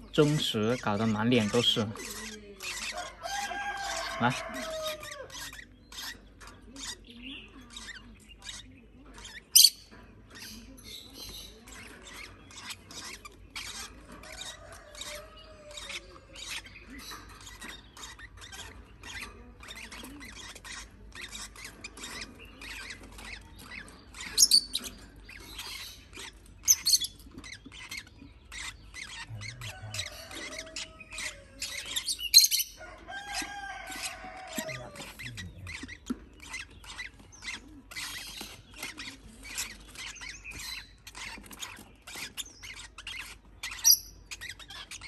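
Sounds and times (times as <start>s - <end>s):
parrot chick clicking and squeaking: 0.0s - 45.0s
parrot chick squawks: 1.5s - 10.6s, 11.2s - 45.0s.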